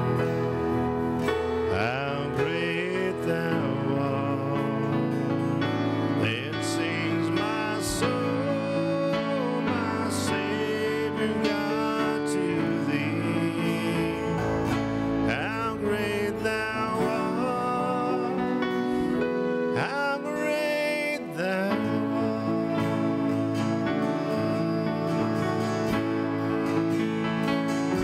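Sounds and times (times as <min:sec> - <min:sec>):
electric guitar: 0:00.0 - 0:28.0
keyboard: 0:00.0 - 0:28.0
strummed acoustic guitar: 0:00.0 - 0:28.0
worship band playing slow song: 0:00.0 - 0:28.0.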